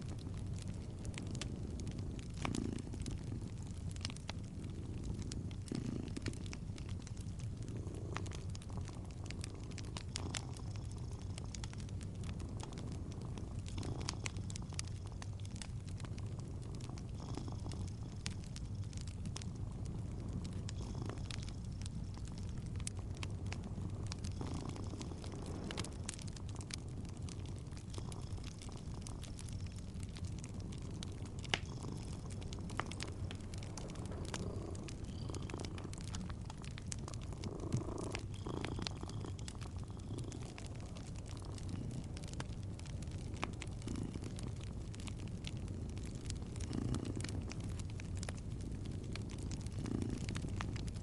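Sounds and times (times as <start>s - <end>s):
cat purring: 0.0s - 51.0s
wood fire crackling and popping: 0.0s - 51.0s.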